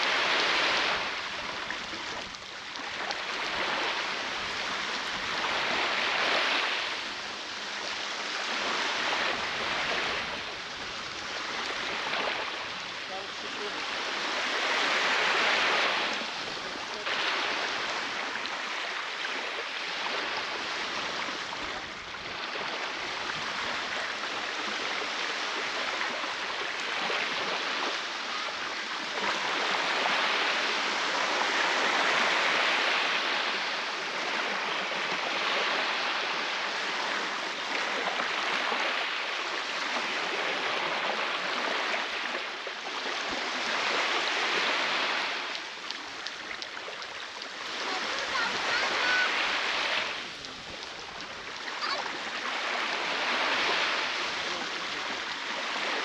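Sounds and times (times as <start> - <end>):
surf breaking on shore: 0.0 - 56.0.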